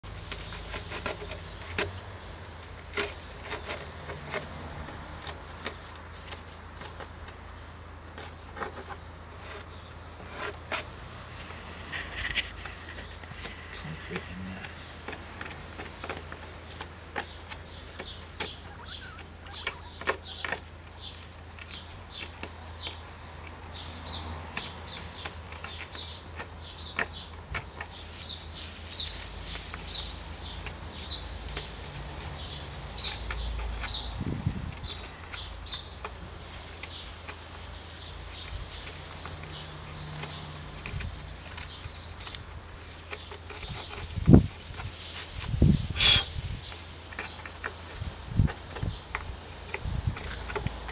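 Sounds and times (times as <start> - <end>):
tool scratching and tapping wood: 0.0 - 50.9.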